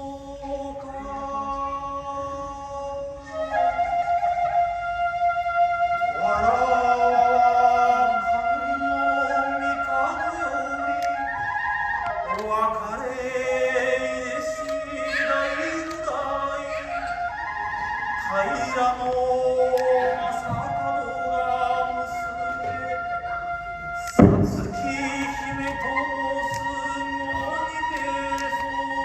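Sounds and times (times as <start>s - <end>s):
sustained flute notes: 3.1s - 29.0s
person chanting long-held notes: 5.2s - 29.0s.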